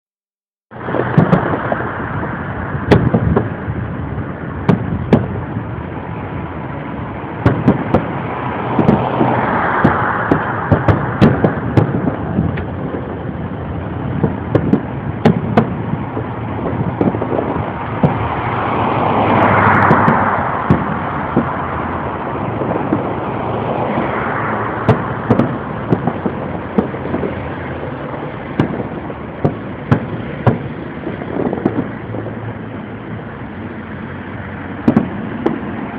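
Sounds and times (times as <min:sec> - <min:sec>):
firework bangs and pops: 0:00.7 - 0:35.9
firework hisses: 0:00.7 - 0:35.9
steady rumbling noise: 0:00.7 - 0:35.9.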